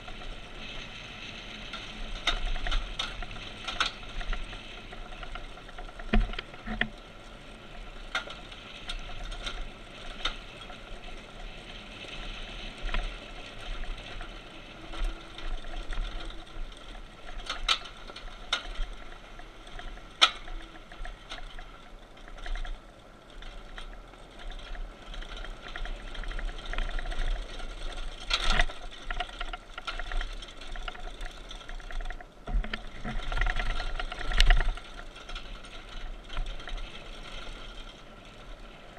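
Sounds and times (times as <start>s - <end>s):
bike frame rattling: 0.0s - 38.9s.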